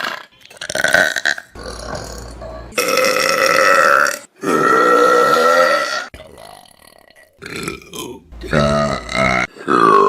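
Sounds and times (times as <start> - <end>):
person burping: 0.0 - 10.0.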